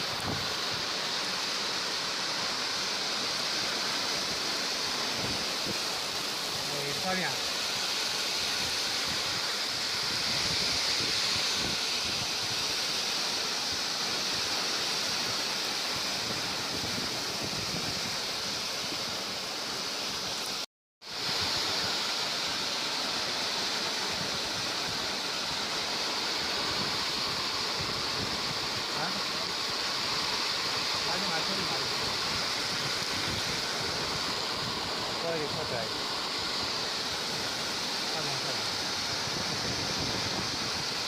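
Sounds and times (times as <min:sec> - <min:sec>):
rain falling: 0:00.0 - 0:10.6, 0:11.4 - 0:41.0.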